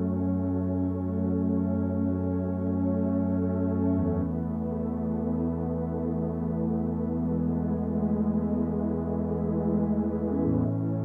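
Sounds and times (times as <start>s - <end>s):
soft ambient chords: 0.0s - 11.0s.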